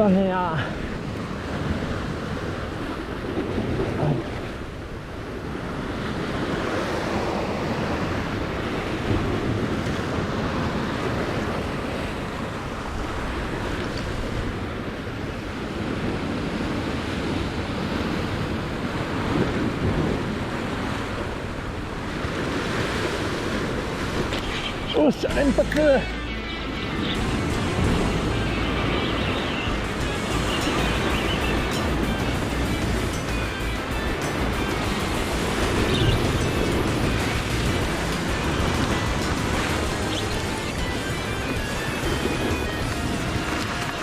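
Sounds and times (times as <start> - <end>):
wind buffeting microphone: 0.0 - 25.9, 26.6 - 44.0
surf washing against rocks: 0.0 - 44.0.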